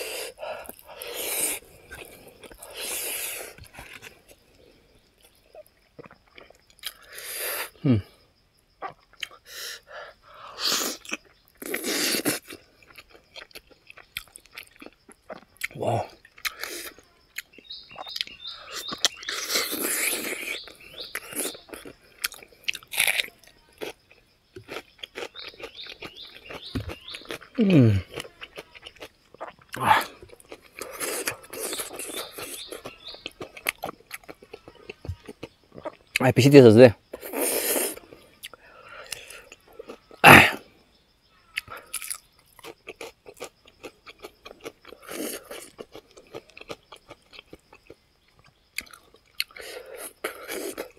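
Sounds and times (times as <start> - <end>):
wet chewing clicks: 5.2 - 7.2, 8.8 - 9.4, 10.7 - 36.5, 37.1 - 40.2, 41.5 - 50.9.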